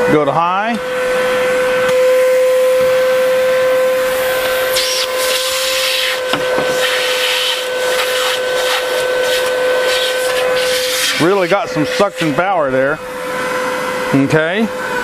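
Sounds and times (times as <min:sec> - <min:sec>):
stick vacuum whining: 0:00.7 - 0:15.0.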